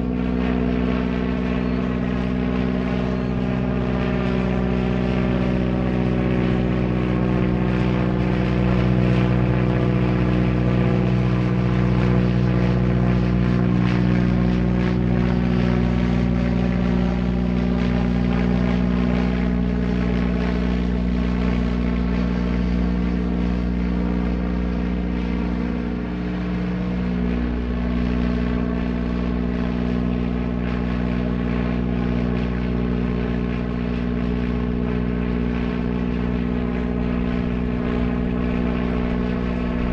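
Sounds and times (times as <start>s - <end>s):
propeller airplane droning: 0.0s - 39.9s.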